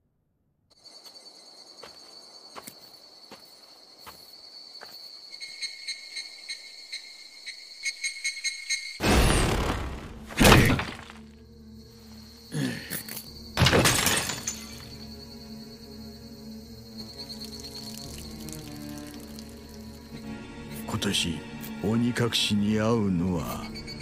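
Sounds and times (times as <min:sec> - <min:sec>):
insects chirring: 0:00.7 - 0:24.0.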